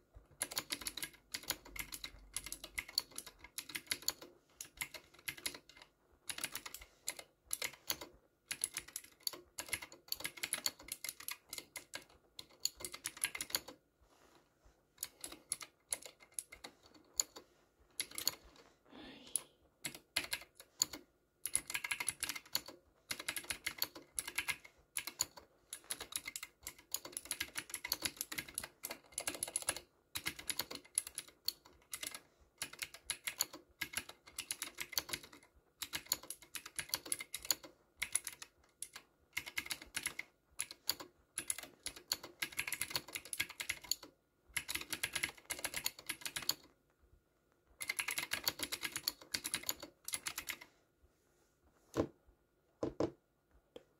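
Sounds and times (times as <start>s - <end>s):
clicky mechanical keyboard typing: 0.3s - 13.8s, 15.0s - 18.5s, 19.8s - 46.7s, 47.8s - 50.7s.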